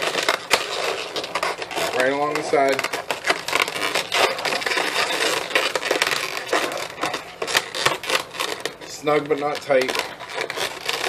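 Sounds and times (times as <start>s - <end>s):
balloons rubbing and scraping: 0.0s - 11.0s.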